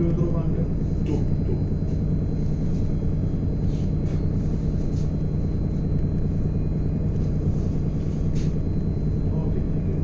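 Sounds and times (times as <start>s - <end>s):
ship engine low rumble: 0.0s - 10.0s.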